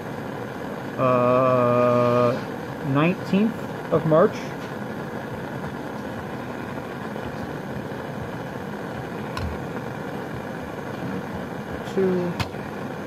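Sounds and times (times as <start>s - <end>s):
gas burner flame rushing: 0.0s - 13.0s.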